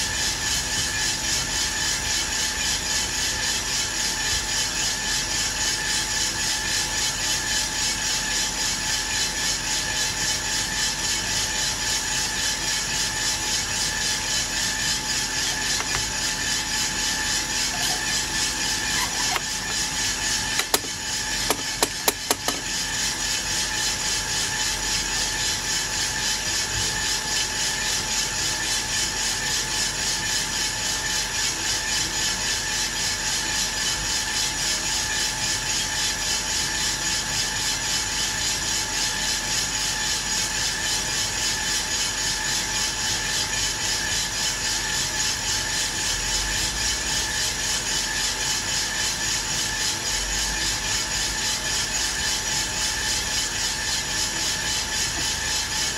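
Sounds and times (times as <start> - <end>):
coffee roaster drum tumbling beans: 0.0 - 55.9.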